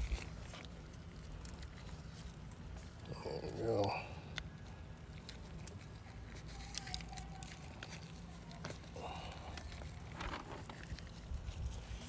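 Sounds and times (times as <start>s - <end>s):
low background hum: 0.0s - 12.0s
small clicks and rustles: 0.0s - 12.0s.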